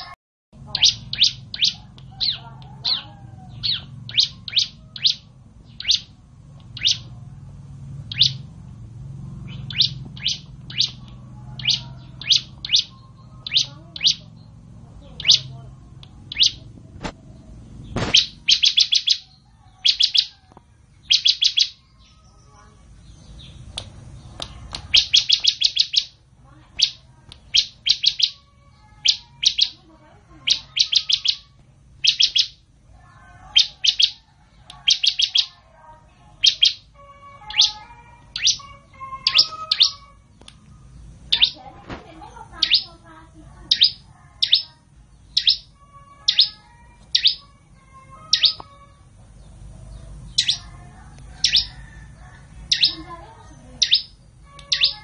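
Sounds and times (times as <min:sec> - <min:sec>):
bird chirping sharply: 0:00.0 - 0:07.2, 0:07.9 - 0:08.6, 0:09.4 - 0:20.4, 0:21.0 - 0:32.7, 0:33.4 - 0:35.6, 0:36.3 - 0:43.1, 0:43.7 - 0:47.6, 0:48.2 - 0:55.0.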